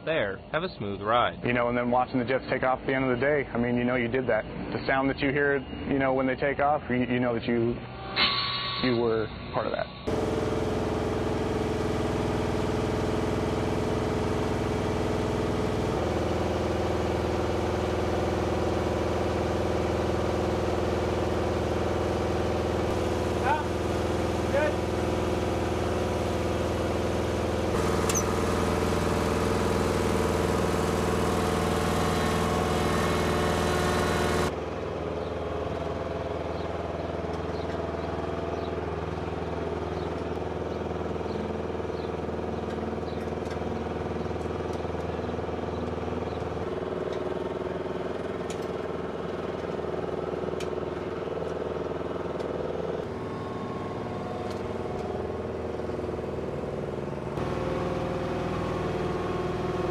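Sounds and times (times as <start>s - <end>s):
steady engine hum: 8.9s - 59.9s
truck engine running: 9.0s - 59.9s.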